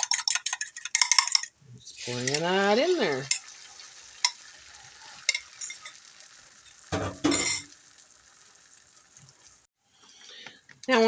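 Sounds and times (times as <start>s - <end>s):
eggs sizzling in a frying pan: 0.0s - 9.8s.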